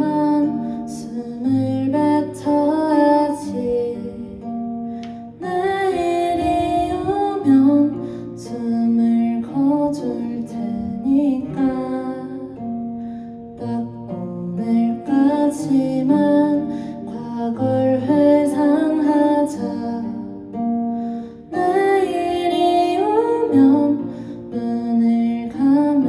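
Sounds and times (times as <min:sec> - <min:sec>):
acoustic guitar: 0:00.0 - 0:26.0
woman singing: 0:00.0 - 0:26.0.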